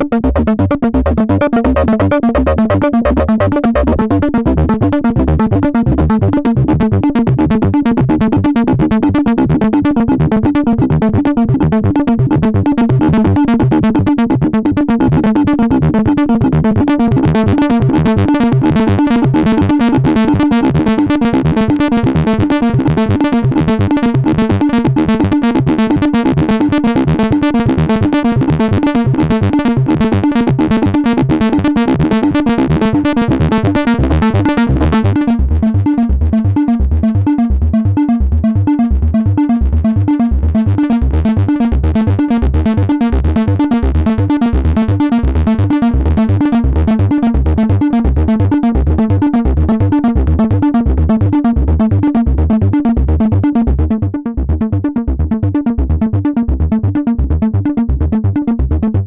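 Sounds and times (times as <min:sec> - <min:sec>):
synthesizer acid bass line: 0:00.0 - 0:59.0.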